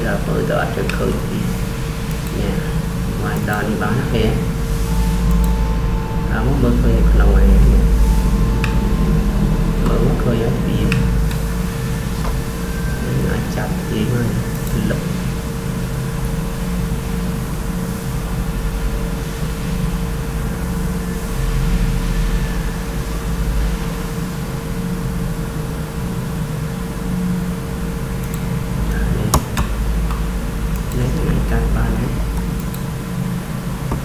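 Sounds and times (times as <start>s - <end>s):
mechanical hum with whine: 0.0s - 34.0s.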